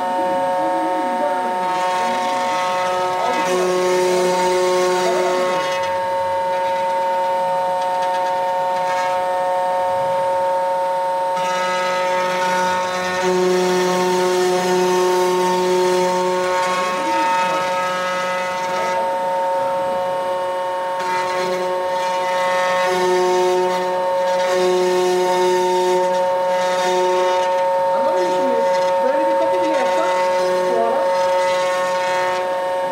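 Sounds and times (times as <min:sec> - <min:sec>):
router bit cutting hiss: 0:00.0 - 0:32.9
router spindle high whine: 0:00.0 - 0:32.9.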